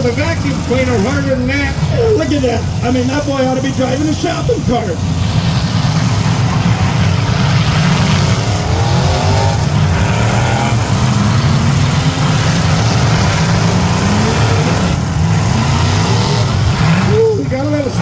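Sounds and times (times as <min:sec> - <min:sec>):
stock car engines revving: 0:00.0 - 0:18.0.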